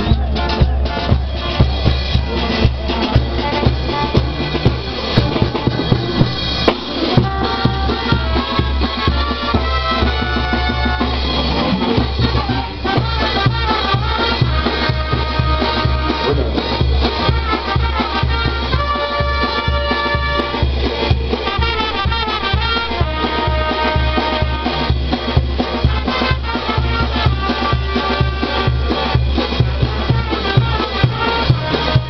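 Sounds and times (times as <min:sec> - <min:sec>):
congas: 0:00.0 - 0:32.0
cymbals: 0:00.0 - 0:32.0
trumpets holding notes: 0:00.0 - 0:32.0.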